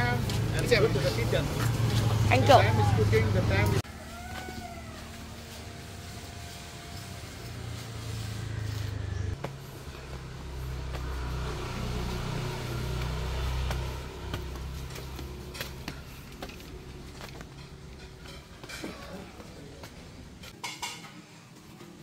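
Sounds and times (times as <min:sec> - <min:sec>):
vehicle engine rumble passing: 0:00.0 - 0:03.9, 0:04.8 - 0:20.5.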